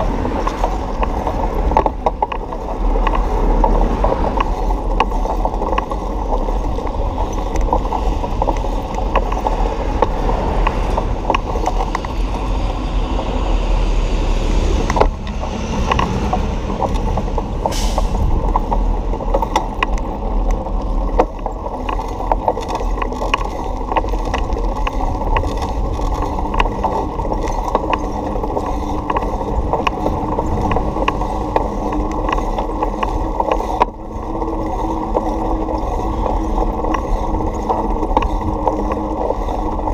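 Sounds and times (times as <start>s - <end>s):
bicycle clicks and rattles: 0.0s - 12.9s, 14.8s - 39.9s
tyres rumbling on asphalt: 0.0s - 39.9s
wind: 0.0s - 39.9s.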